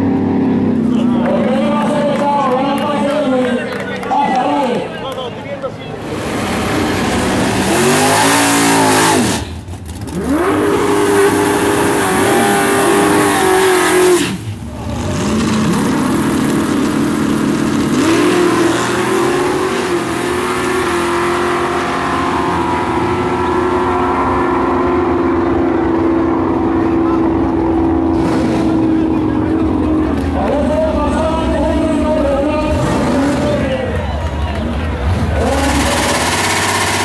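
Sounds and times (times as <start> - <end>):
racing car engines revving: 0.0 - 37.0.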